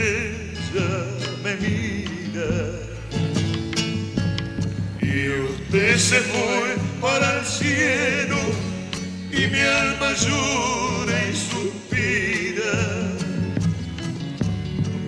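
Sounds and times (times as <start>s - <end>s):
acoustic guitar accompaniment: 0.0s - 15.0s.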